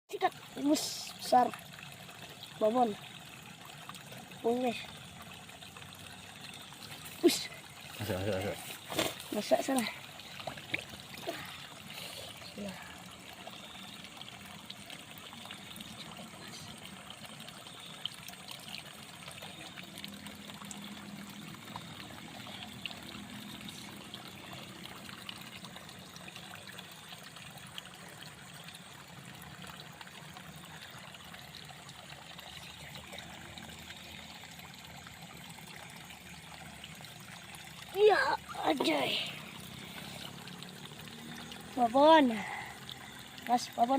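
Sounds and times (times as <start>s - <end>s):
water trickling: 0.1s - 43.9s.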